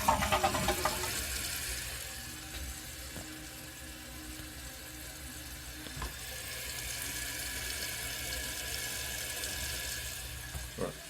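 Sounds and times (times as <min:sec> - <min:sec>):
toilet tank refilling hiss: 0:00.0 - 0:04.7, 0:05.4 - 0:11.0.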